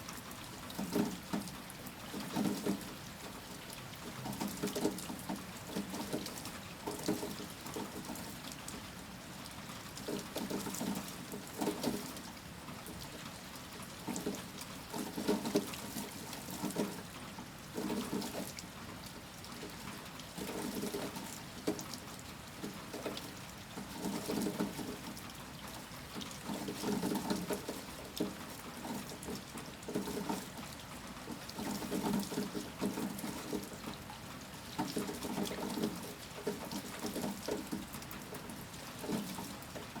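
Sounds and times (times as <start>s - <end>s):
water pouring and splashing: 0.1s - 40.0s.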